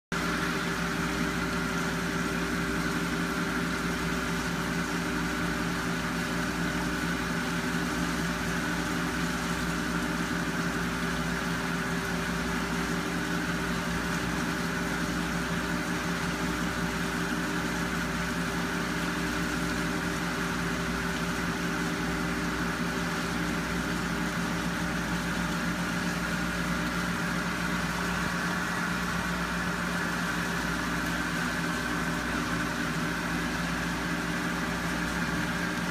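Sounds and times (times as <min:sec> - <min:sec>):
aquarium pump humming: 0:00.1 - 0:35.9.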